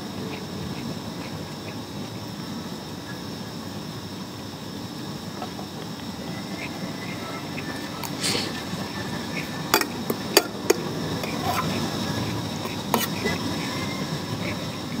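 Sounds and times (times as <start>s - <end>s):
steady room hum: 0.0s - 15.0s.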